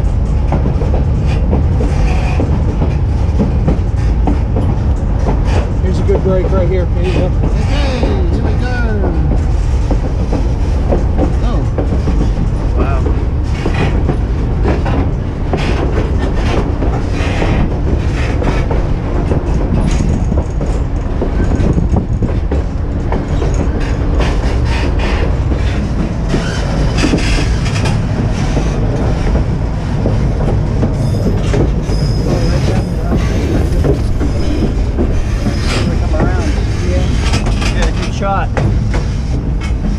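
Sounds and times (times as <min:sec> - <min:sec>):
train car rumbling: 0:00.0 - 0:39.9
wheels clacking over rail joints: 0:00.0 - 0:39.9.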